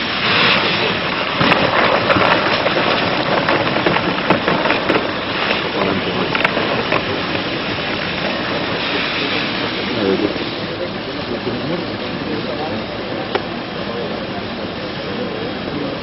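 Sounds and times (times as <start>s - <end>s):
fire cracks and splashes: 0.0s - 16.0s
hissing water spray: 0.0s - 16.0s.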